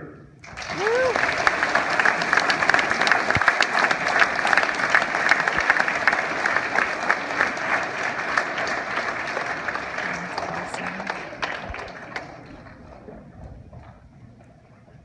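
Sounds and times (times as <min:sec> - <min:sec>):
audience applauding: 0:00.4 - 0:14.0.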